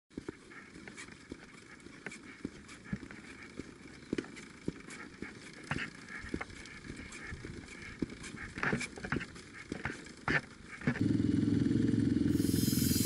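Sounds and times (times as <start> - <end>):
footsteps on paving: 0.1 - 11.0.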